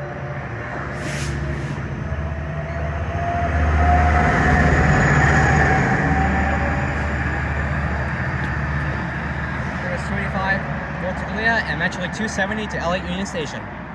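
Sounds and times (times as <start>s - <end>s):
passenger train engine drone: 0.0s - 13.9s.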